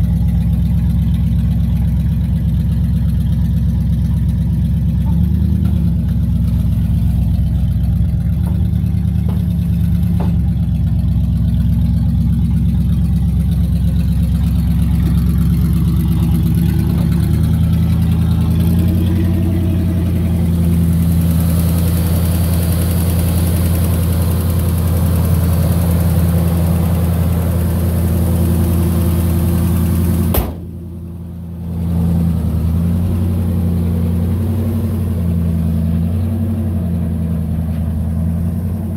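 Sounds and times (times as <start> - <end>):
pickup engine idling: 0.0 - 38.9.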